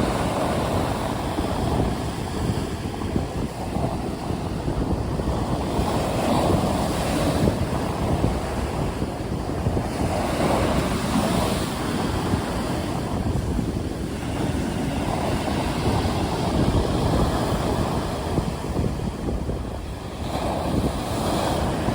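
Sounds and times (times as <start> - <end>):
waves breaking: 0.0 - 21.9
wind rumbling on microphone: 0.0 - 21.9.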